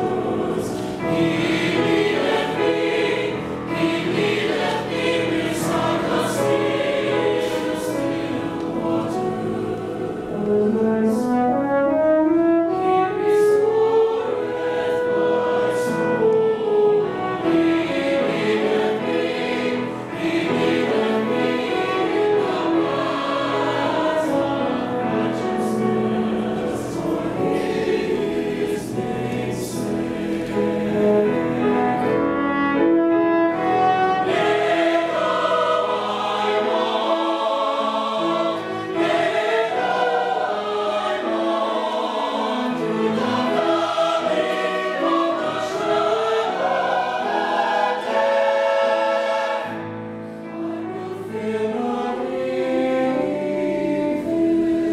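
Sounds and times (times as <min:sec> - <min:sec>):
mixed choir singing: 0:00.0 - 0:54.9
piano: 0:00.0 - 0:54.9.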